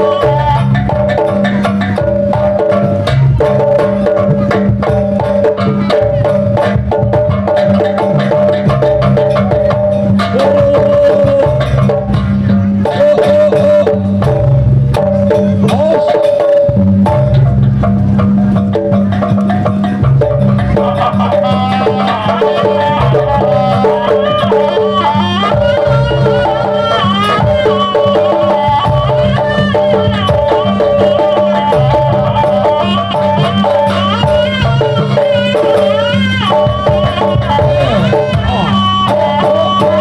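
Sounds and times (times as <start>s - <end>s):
drums and gamelan percussion: 0.0s - 40.0s
wavering held melody: 0.0s - 40.0s.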